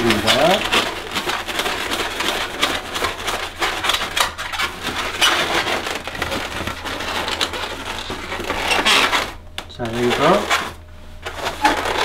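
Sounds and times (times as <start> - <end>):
balloons squeaking and creaking: 0.0 - 12.0.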